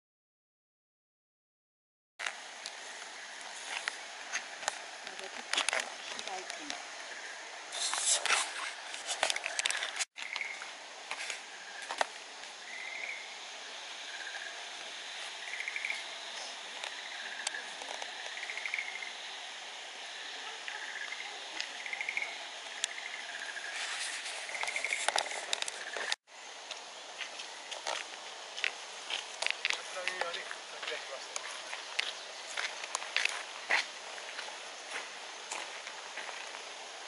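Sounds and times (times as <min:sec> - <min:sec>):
steady hiss: 0:02.2 - 0:37.0.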